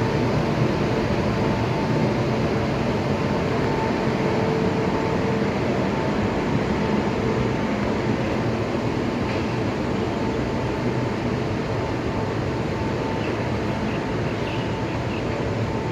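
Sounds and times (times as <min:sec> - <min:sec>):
stationary train rumbling: 0:00.0 - 0:15.9.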